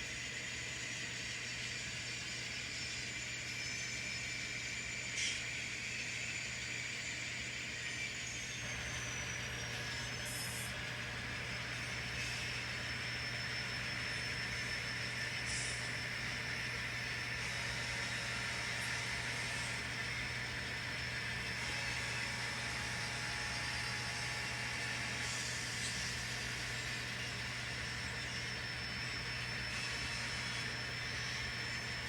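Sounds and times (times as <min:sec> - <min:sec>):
model trains humming and whirring: 0:00.0 - 0:32.0.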